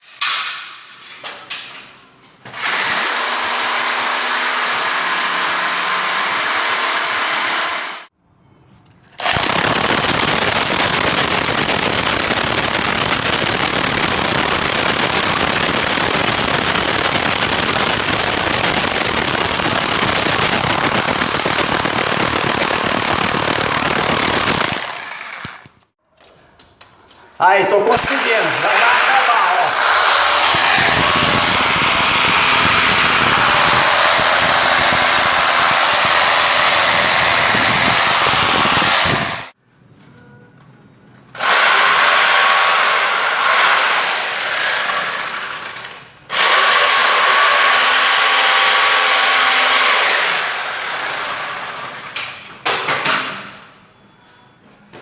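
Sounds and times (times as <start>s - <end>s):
hammer drill boring: 2.6s - 8.1s, 9.2s - 25.8s, 27.9s - 39.6s, 41.4s - 52.3s.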